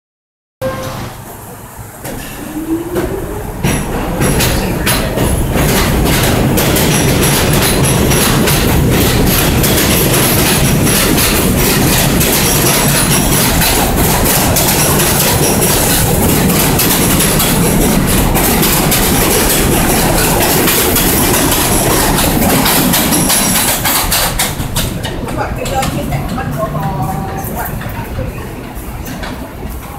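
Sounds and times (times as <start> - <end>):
train wheels clattering over rails: 0.7 - 29.9.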